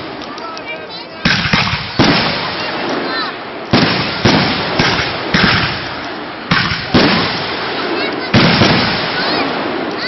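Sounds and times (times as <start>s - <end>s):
fireworks exploding with echo: 0.0s - 10.0s.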